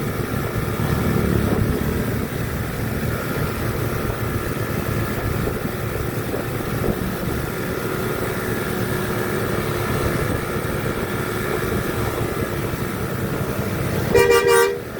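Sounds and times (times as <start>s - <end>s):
bus engine rumbling: 0.0s - 14.9s.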